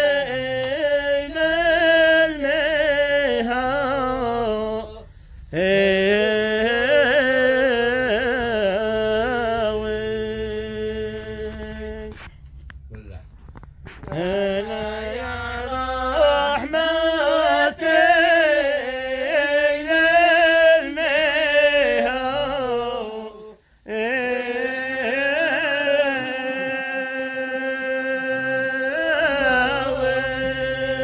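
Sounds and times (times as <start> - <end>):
person singing folk chant: 0.0 - 12.3, 13.9 - 31.0.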